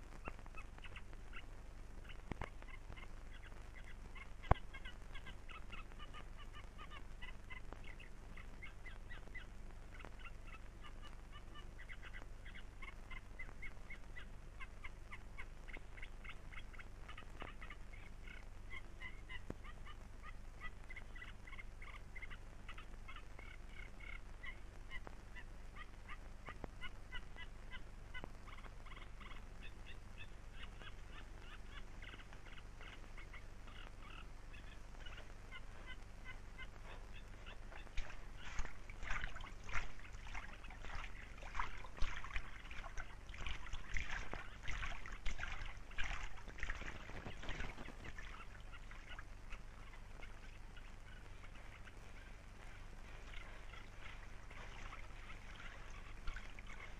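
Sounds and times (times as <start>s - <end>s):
low soundtrack hum: 0.0s - 56.9s
waterbirds calling: 0.0s - 56.9s.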